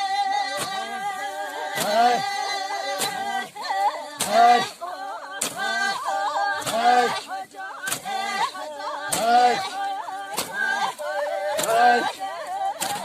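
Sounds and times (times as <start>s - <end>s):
voices singing unaccompanied: 0.0s - 13.0s.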